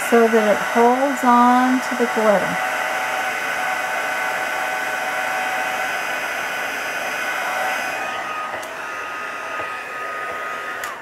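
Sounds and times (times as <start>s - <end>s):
heat tool fan whirring: 0.0s - 11.0s.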